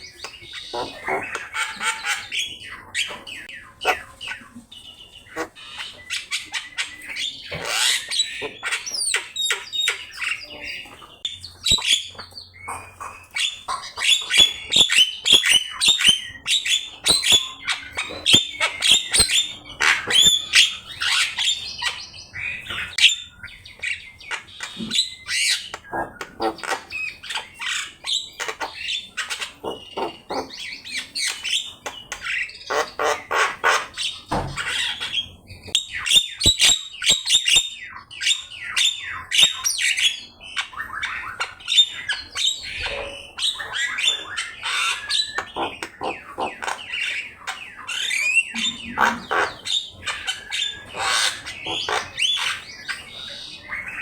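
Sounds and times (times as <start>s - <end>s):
myna singing squawks and whistles: 0.0s - 54.0s.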